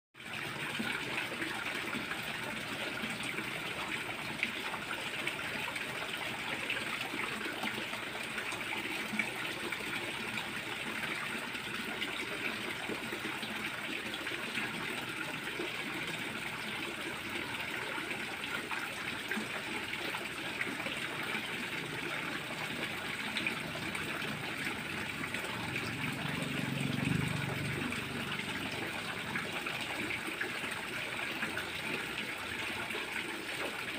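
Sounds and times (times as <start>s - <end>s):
water pouring into pond: 0.2s - 33.9s.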